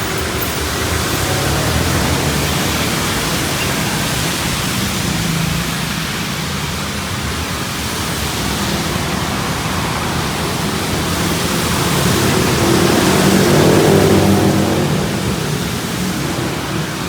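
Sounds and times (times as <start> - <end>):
traffic on wet road: 0.0 - 17.0
vehicle engines humming: 0.0 - 17.0.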